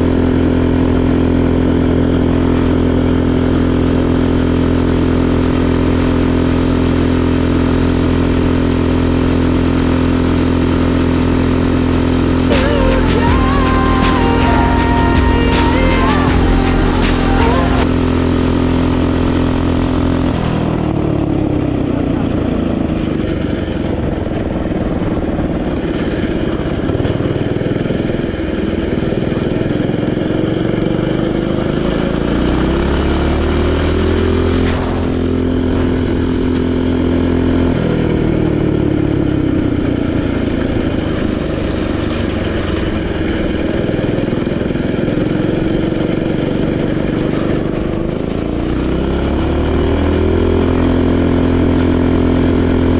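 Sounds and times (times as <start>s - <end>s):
small engine revving: 0.0s - 52.9s.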